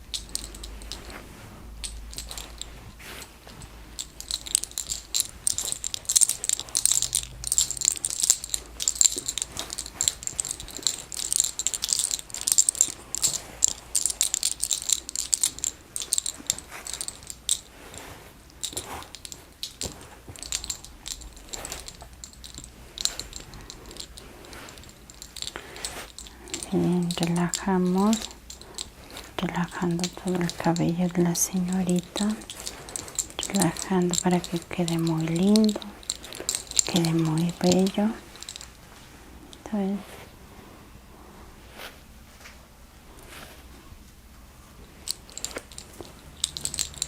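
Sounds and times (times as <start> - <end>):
hands rustling through hair: 0.0 - 40.4, 44.8 - 47.0.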